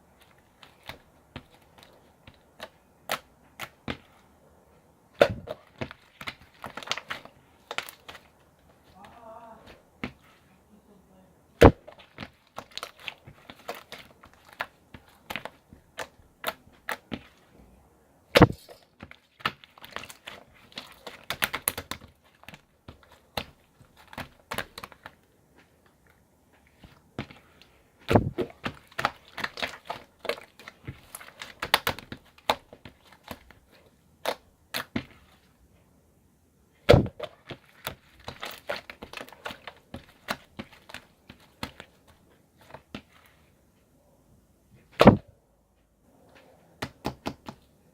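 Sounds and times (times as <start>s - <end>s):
crinkling: 0.0s - 4.3s, 5.1s - 10.6s, 11.6s - 35.8s, 36.8s - 43.8s.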